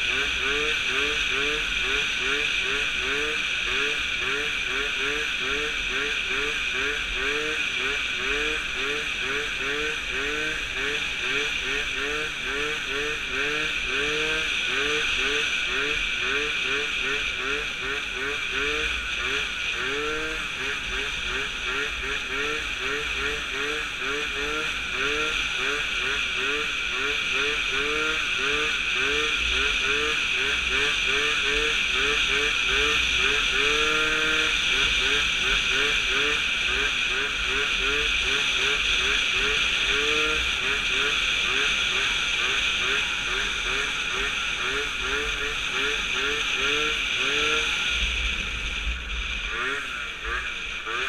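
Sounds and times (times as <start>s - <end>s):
two-stroke scooter engine revving: 0.0s - 51.0s.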